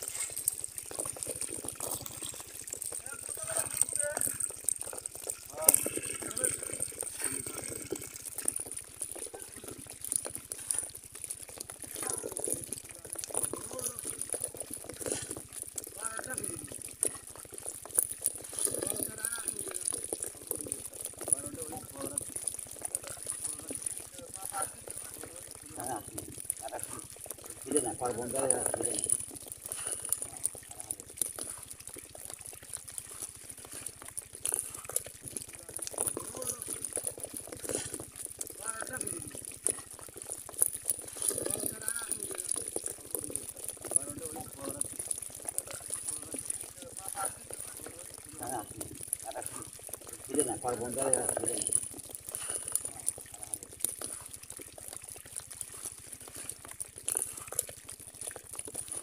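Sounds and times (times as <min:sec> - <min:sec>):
live fish flapping and slapping: 0:00.0 - 0:59.0.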